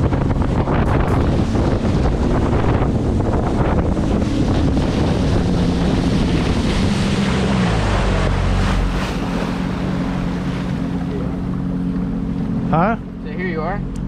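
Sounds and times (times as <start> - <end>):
water rushing off hull: 0.0 - 14.0
watercraft engine running: 0.0 - 14.0
wind buffeting microphone: 0.0 - 14.0.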